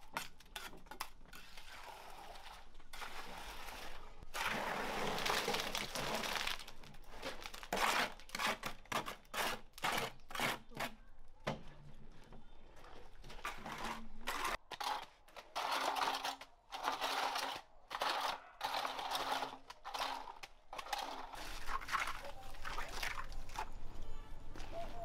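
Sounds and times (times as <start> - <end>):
trowel scraping wet concrete: 0.1 - 11.0, 13.2 - 23.8.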